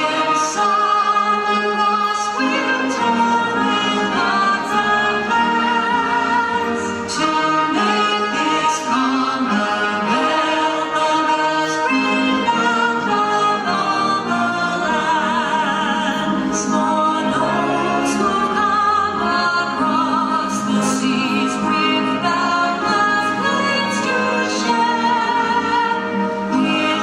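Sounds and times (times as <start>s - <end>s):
instrumental accompaniment: 0.0s - 27.0s
person singing with vibrato: 0.0s - 27.0s.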